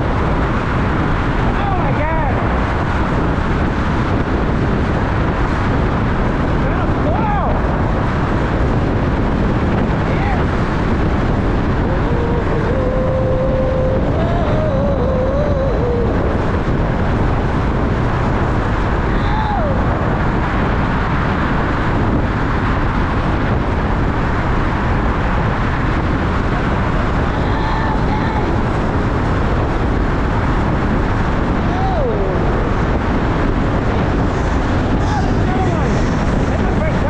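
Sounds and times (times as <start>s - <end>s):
wind rushing on microphone: 0.0s - 37.0s.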